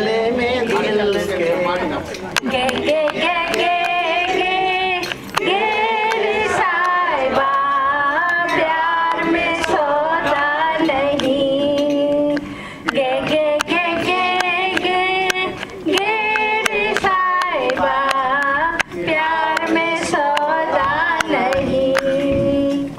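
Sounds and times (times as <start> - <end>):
woman singing through speaker: 0.0 - 22.9.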